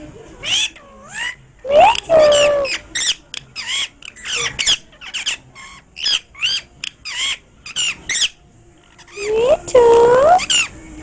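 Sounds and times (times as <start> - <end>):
parakeet squawking calls: 0.4 - 8.4, 9.0 - 10.8.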